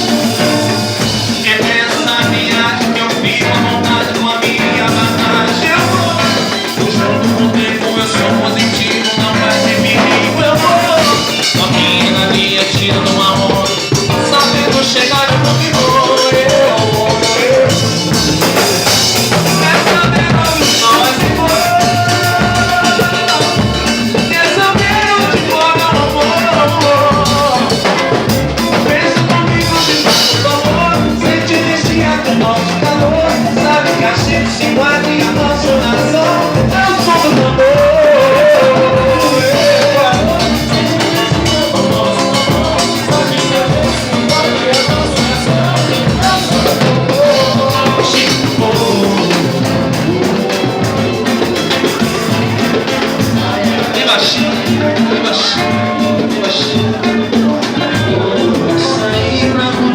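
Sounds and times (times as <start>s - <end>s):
drums beating: 0.0s - 59.9s
live band playing: 0.0s - 59.9s
person singing: 0.0s - 59.9s.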